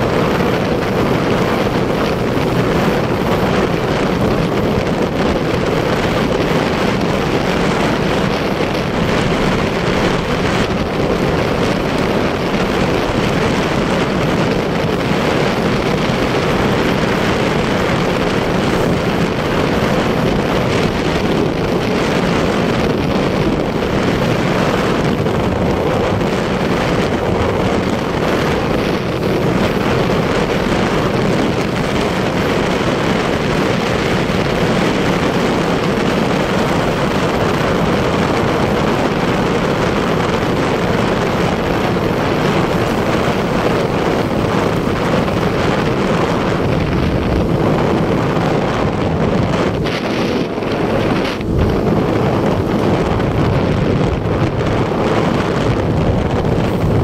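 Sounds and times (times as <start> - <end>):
vehicle engine and road noise: 0.0 - 57.0
wind rushing over microphone: 0.0 - 57.0.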